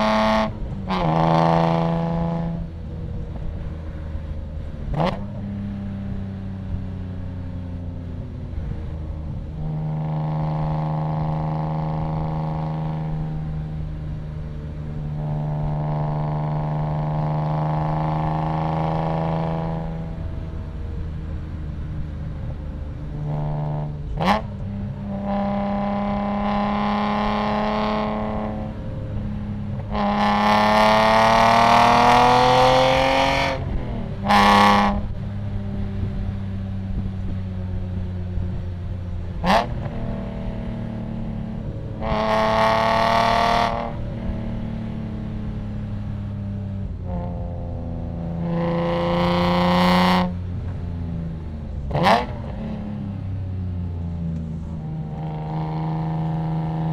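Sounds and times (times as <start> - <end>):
car engine accelerating hard: 0.0 - 56.9.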